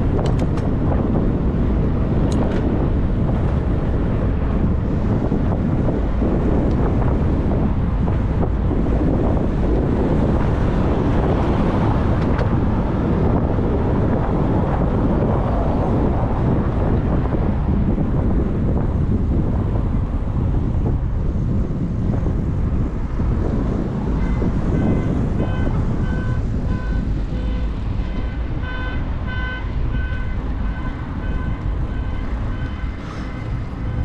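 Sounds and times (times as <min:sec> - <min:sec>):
road and traffic noise: 0:00.0 - 0:34.0
wind buffeting microphone: 0:00.0 - 0:34.0.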